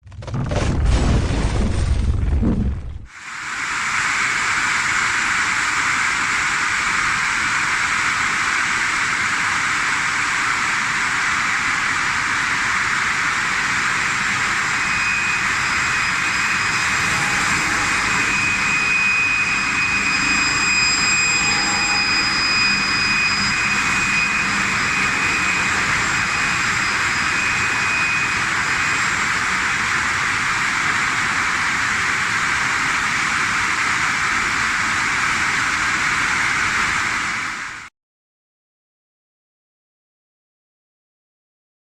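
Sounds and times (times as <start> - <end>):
thin high whine: 3.1 - 37.9
circular saw blades rushing: 3.3 - 37.6.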